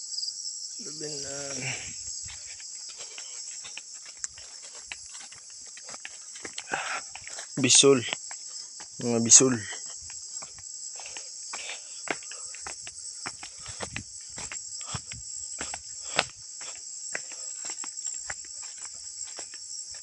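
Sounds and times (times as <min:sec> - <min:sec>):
insects chorus: 0:00.0 - 0:20.0
footsteps through grass and leaves: 0:00.9 - 0:20.0.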